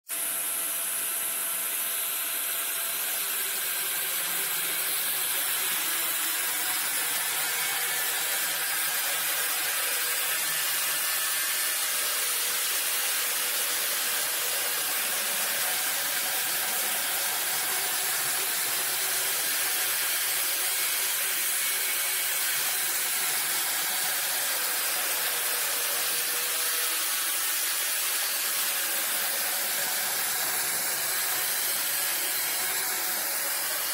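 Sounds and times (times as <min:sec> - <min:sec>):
angle grinder grinding metal: 0:00.1 - 0:33.9.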